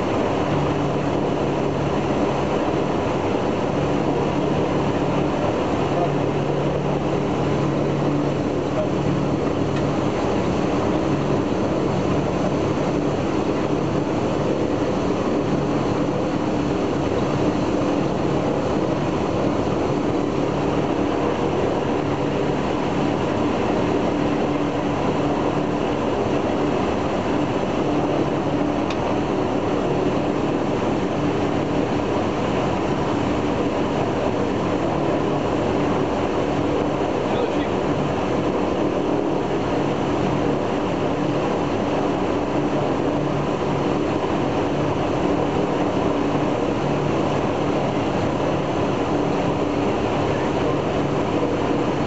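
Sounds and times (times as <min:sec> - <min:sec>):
radial aircraft engine droning: 0:00.0 - 0:52.0.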